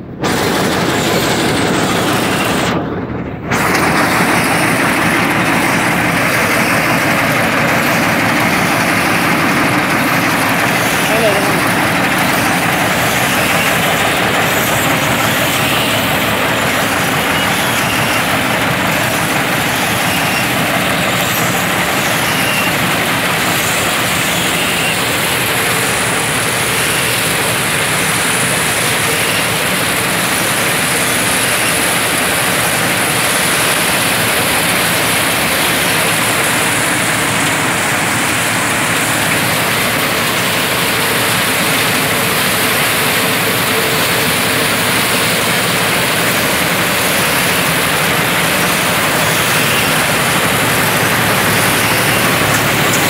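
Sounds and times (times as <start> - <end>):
tractor and harvester running: 0.0 - 53.0.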